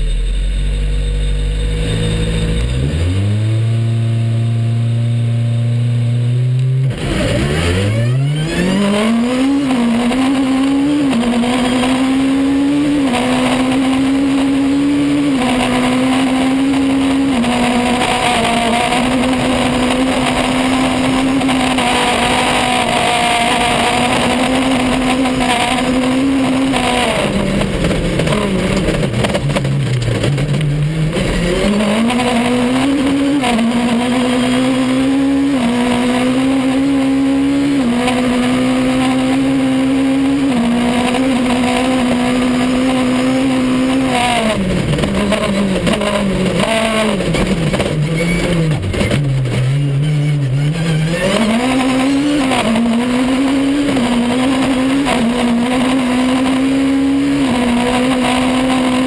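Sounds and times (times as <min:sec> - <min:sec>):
gravel under tyres: 0:00.0 - 0:59.0
rally car engine revving: 0:00.0 - 0:59.0.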